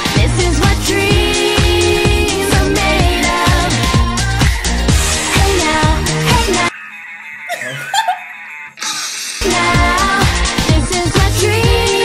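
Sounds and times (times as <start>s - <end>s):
pop music with drum beat: 0.0s - 6.7s, 8.9s - 12.0s.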